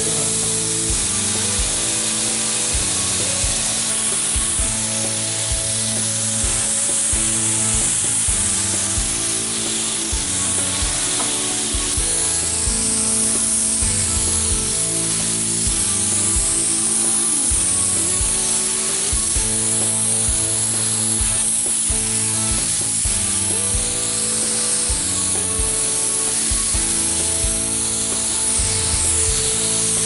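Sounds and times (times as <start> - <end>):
air spray gun hissing: 0.0 - 30.0
background music with steady beat: 0.0 - 30.0.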